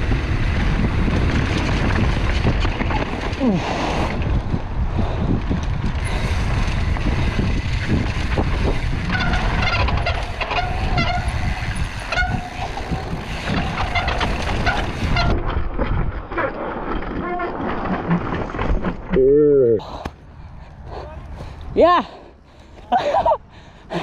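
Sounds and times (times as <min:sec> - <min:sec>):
wind rumble on microphone: 0:00.0 - 0:19.6
tyres on dirt: 0:00.0 - 0:22.0.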